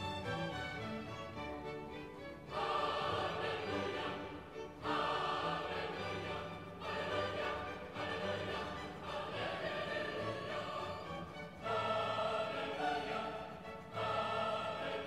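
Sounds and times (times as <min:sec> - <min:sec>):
classical music with choir voices: 0:00.0 - 0:15.0.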